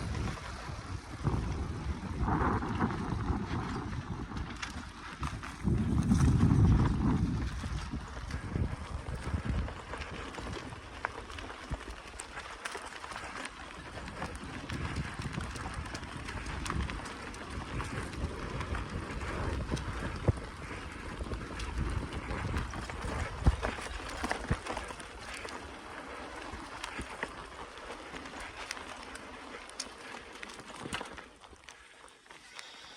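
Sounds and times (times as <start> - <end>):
wind buffeting microphone: 0.0 - 12.5, 13.1 - 29.1
small clicks and crackles: 2.2 - 32.9.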